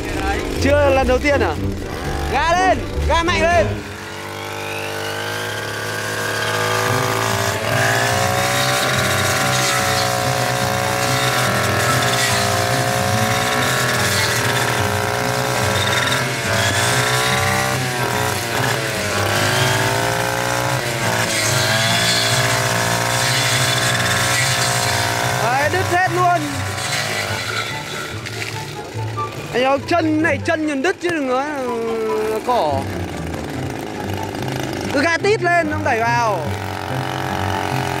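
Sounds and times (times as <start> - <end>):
brush cutter running: 0.0 - 38.0.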